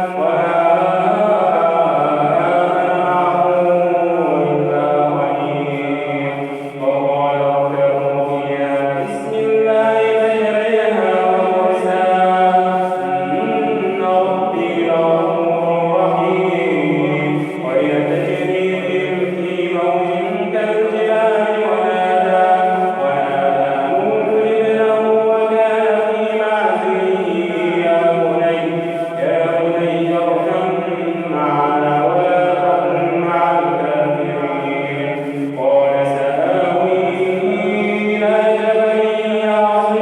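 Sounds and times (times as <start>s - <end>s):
man chanting melodic recitation: 0.0s - 40.0s.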